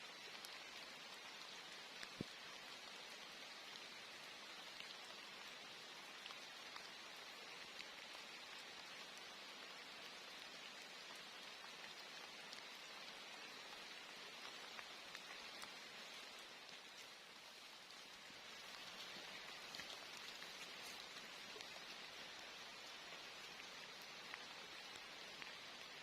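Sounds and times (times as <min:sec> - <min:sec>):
rain falling: 0:00.0 - 0:26.0
single raindrops ticking: 0:00.1 - 0:26.0.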